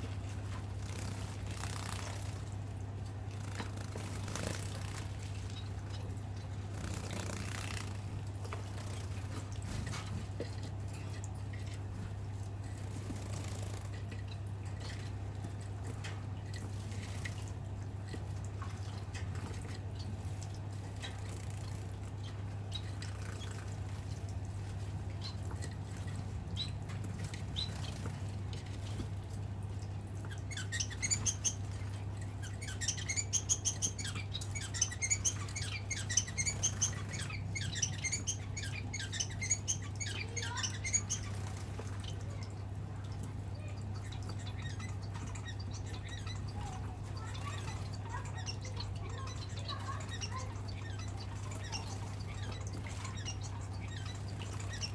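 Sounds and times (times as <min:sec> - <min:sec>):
birds splashing in water: 0:00.0 - 0:54.9
steady low hum: 0:00.0 - 0:54.9.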